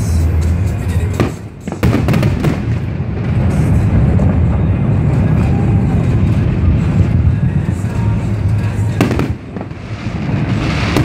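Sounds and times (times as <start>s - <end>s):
fireworks booming rumble: 0.0s - 11.0s
sharp firework cracks: 1.2s - 11.0s.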